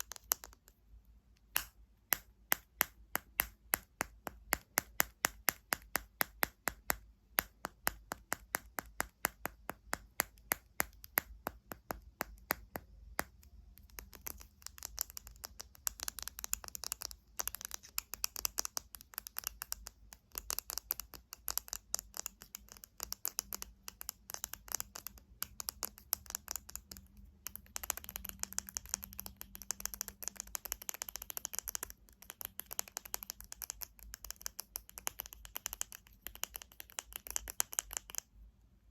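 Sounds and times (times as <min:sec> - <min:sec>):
fingernails tapping on hard object: 0:01.5 - 0:38.3.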